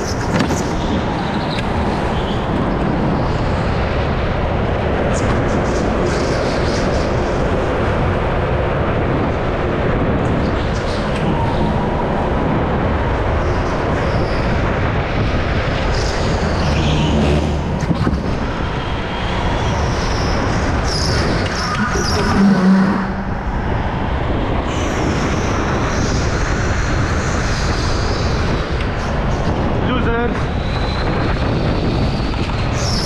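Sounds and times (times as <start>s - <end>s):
go-kart motor and track noise: 0.0s - 33.0s.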